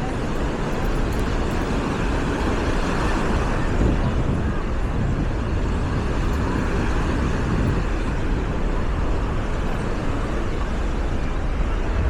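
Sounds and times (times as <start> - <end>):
faint crowd voices: 0.0 - 12.0
surf: 0.0 - 12.0
wind on microphone: 0.0 - 12.0.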